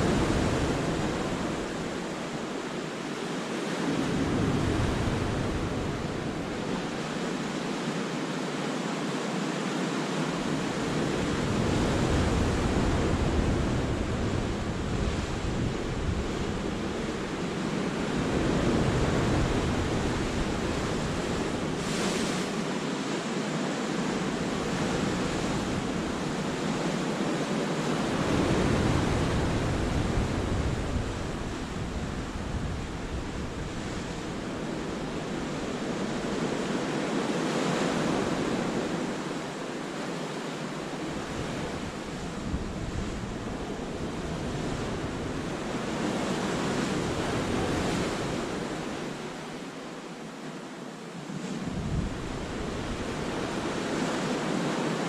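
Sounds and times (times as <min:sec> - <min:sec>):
wind rumbling on microphone: 0:00.0 - 0:02.6, 0:03.8 - 0:07.6, 0:10.4 - 0:22.6, 0:24.0 - 0:39.5, 0:40.9 - 0:49.6, 0:51.3 - 0:55.0
sea waves breaking over rocks: 0:00.0 - 0:50.4, 0:51.0 - 0:55.0.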